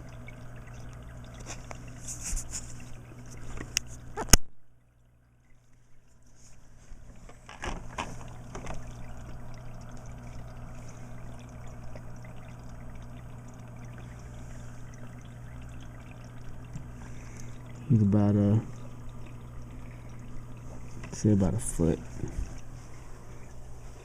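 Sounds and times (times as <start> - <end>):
low filter hum: 0.0 - 24.0
water trickling and splashing: 0.0 - 24.0.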